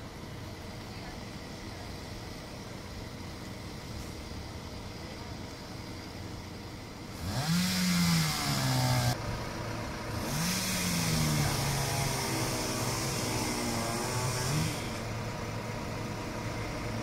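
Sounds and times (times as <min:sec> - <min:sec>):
outdoor background noise: 0:00.0 - 0:17.0
diesel engine revving: 0:01.5 - 0:17.0.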